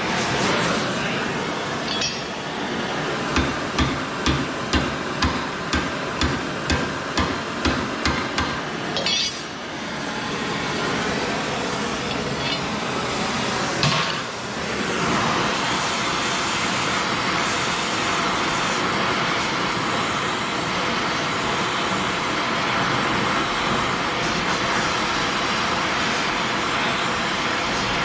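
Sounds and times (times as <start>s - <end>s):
power tool running on steel: 0.9s - 28.0s.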